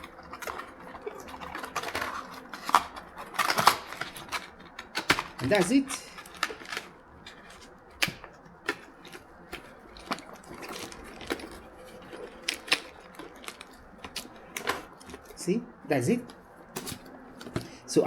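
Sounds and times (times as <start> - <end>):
faint paper rustle: 0.0 - 18.0.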